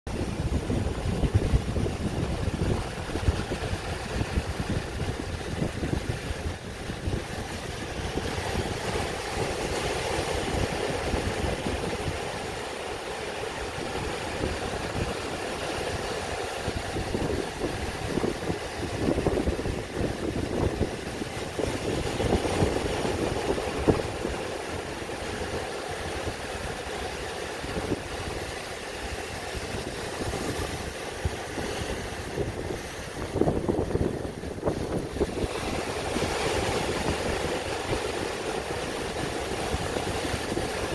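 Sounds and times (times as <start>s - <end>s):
ocean surf breaking on rocks: 0.1s - 40.9s.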